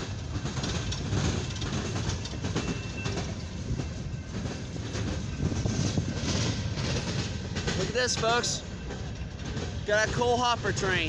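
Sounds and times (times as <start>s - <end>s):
train wheels rumbling and clacking: 0.0s - 11.0s.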